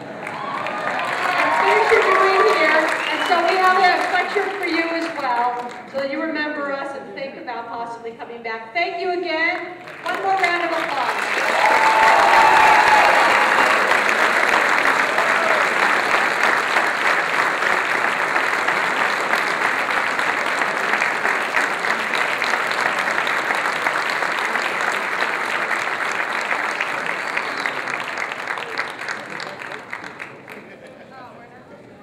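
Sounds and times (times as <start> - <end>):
audience applauding: 0.0 - 6.0, 9.8 - 31.3.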